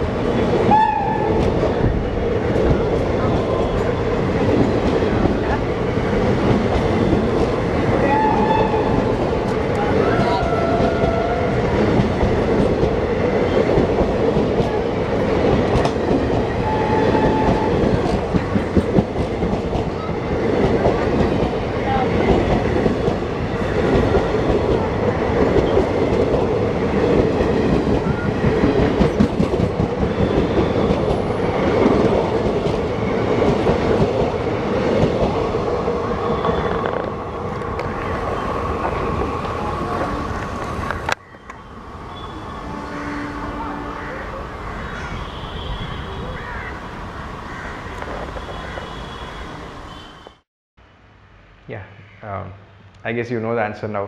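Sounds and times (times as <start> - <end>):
train rushing past: 0.0 - 50.3.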